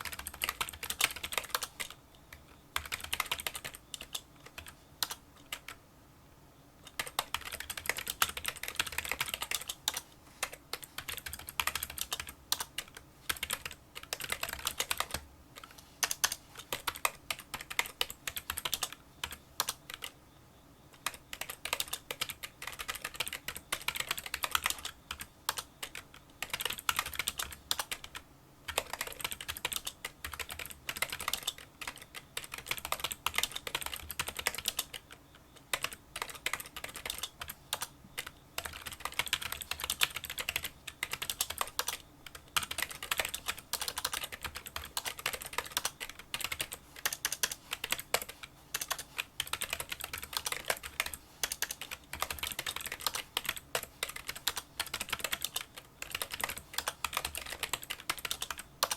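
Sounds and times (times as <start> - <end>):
typing on keyboard: 0.0 - 5.8, 6.8 - 20.2, 20.9 - 58.9.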